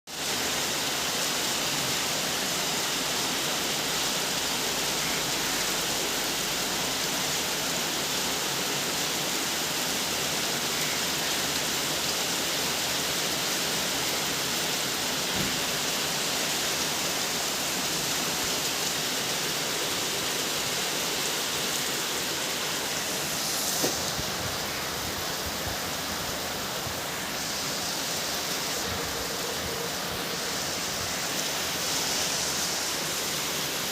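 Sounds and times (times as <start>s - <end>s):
steady rain: 0.1s - 33.9s.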